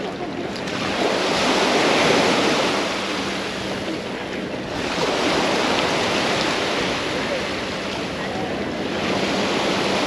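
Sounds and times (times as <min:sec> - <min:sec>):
sea waves breaking on beach: 0:00.0 - 0:10.0.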